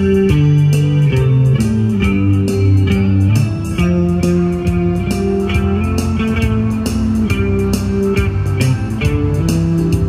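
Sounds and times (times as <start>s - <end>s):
low bass: 0.0s - 10.0s
plucked guitar: 0.0s - 10.0s
steady beat: 0.0s - 10.0s.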